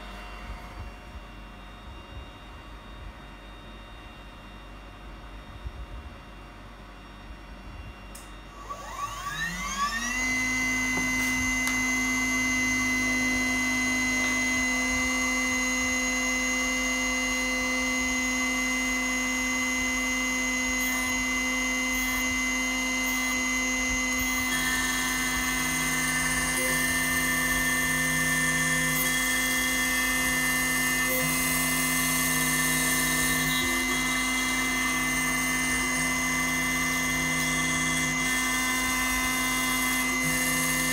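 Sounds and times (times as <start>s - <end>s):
milling machine spindle whine: 8.1s - 40.9s.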